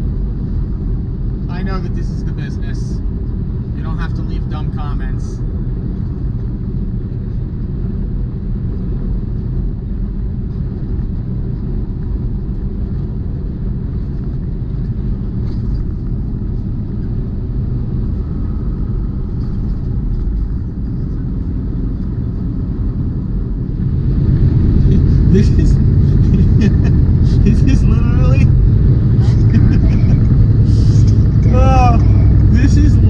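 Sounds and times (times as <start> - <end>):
road noise: 0.0 - 33.0
truck engine rumble: 0.0 - 33.0.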